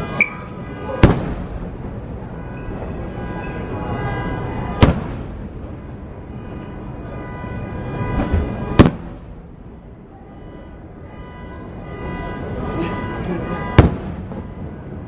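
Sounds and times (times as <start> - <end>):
fireworks bangs: 0.0 - 15.0
low rumble of distant fireworks: 0.0 - 15.0.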